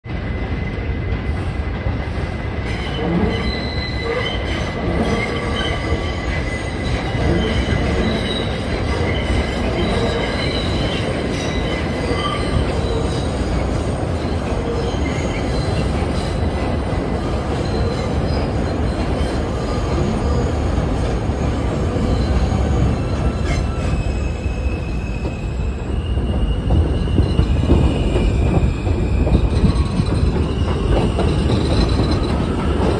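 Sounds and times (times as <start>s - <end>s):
rumble of train wheels: 0.0s - 32.9s
train wheels squealing: 2.6s - 32.9s.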